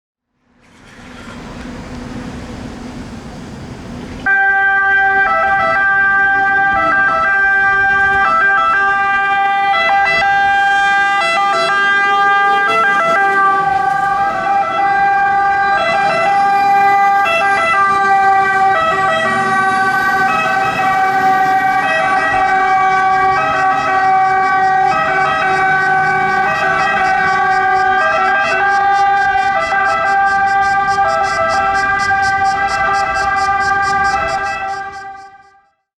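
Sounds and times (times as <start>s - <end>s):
rumble of trucks: 0.4s - 35.5s
fire engine sirens wailing: 1.2s - 35.8s.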